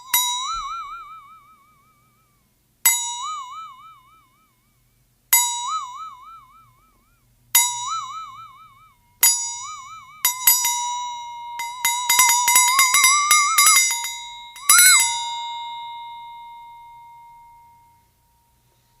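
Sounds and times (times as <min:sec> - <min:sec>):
flexatone ringing: 0:00.0 - 0:02.3, 0:02.9 - 0:04.8, 0:05.4 - 0:18.6.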